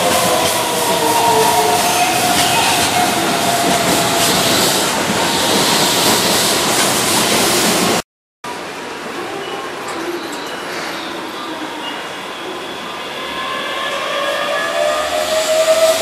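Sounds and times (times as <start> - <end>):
train wheels rumbling: 0.0 - 8.0, 10.2 - 16.0
standing train hum: 0.0 - 16.0.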